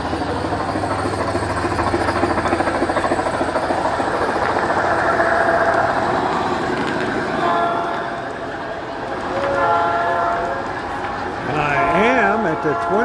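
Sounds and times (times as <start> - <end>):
train wheels clattering on rail: 0.0 - 13.0.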